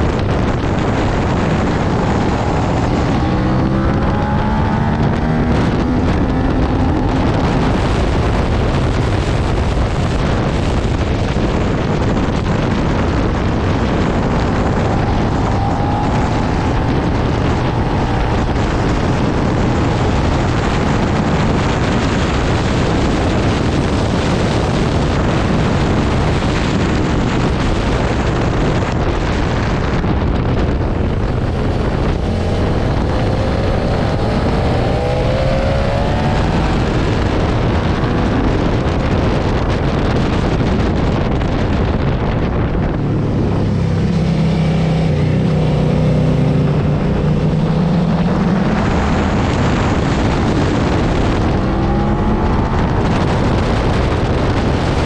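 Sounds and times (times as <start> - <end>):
motorcycle engine at speed: 0.0 - 55.0
wind rushing over microphone: 0.0 - 55.0.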